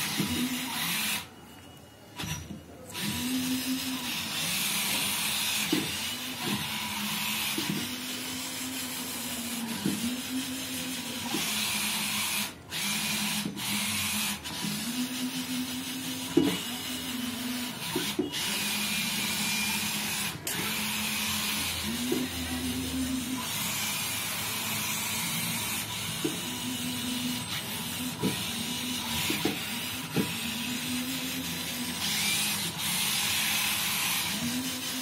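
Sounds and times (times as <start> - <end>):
small electric motors whining: 0.0 - 35.0.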